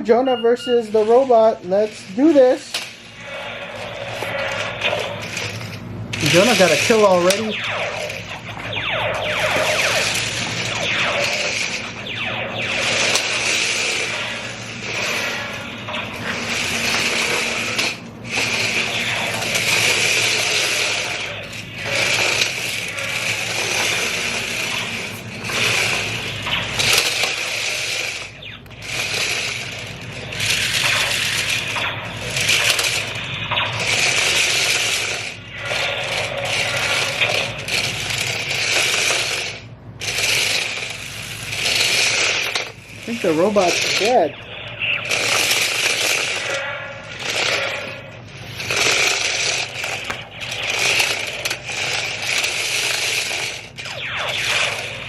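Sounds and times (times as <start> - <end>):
toy tank motors whirring and rattling: 0.9 - 8.8, 9.4 - 12.0, 12.6 - 55.0.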